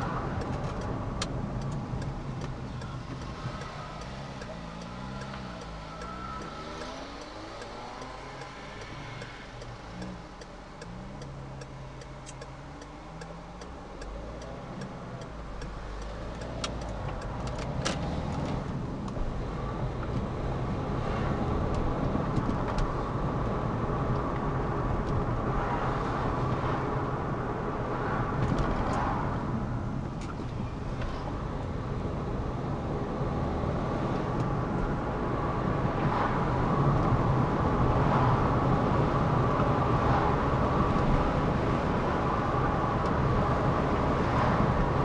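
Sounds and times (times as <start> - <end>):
turn signal ticking: 0.0 - 25.3, 30.0 - 45.0
car engine: 0.0 - 45.0
tyre road noise: 0.0 - 45.0.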